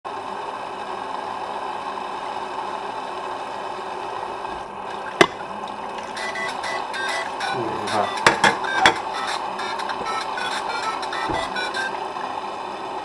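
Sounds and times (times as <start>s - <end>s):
steady mechanical hum: 0.1s - 13.0s.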